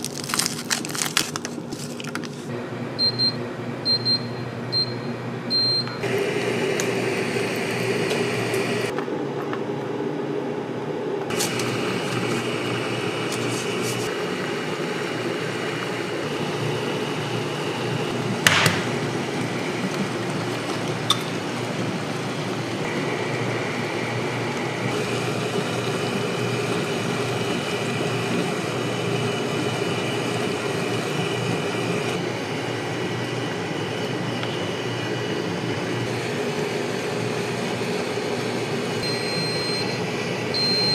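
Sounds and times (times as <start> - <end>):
cooker humming and whining: 0.0 - 40.9.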